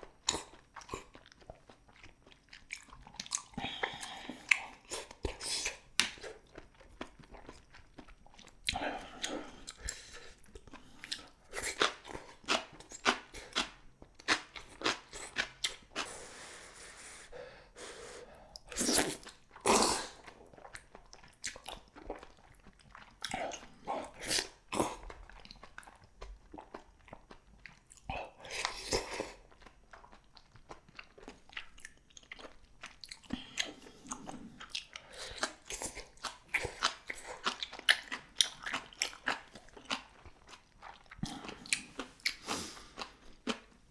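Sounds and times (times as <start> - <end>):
person chewing and crunching: 0.0 - 43.9
mouth smacks: 0.2 - 16.1, 17.9 - 40.3.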